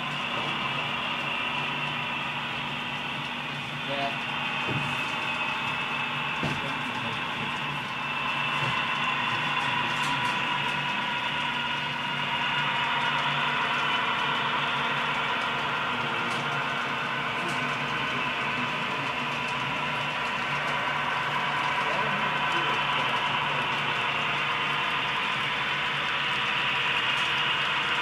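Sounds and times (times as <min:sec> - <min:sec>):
diesel engine sound from small speaker: 0:00.0 - 0:28.0
model cars rolling on track: 0:00.0 - 0:28.0.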